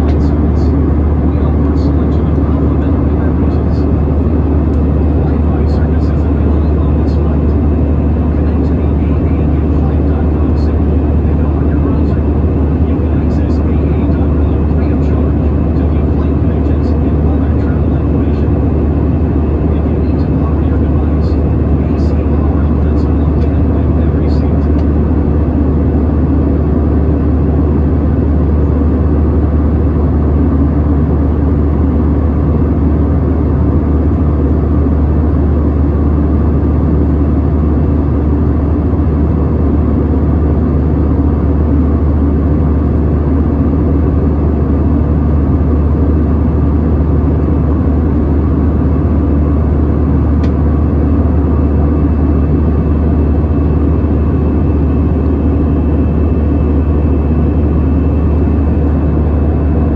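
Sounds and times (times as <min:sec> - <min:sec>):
aircraft cabin engine drone: 0:00.0 - 0:59.9.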